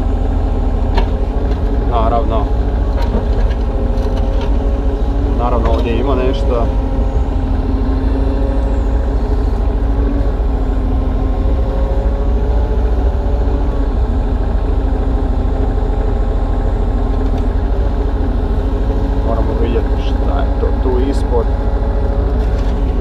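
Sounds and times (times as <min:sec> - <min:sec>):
excavator diesel engine: 0:00.0 - 0:23.0
hydraulics working: 0:00.0 - 0:23.0.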